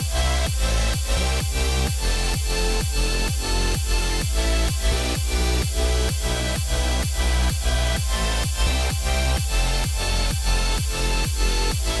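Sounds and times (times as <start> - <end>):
electronic music: 0.0 - 12.0
kick drum beating: 0.0 - 12.0.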